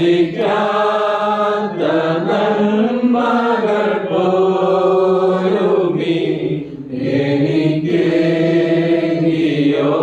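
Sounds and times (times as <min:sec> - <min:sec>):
congregation singing a hymn: 0:00.0 - 0:10.0.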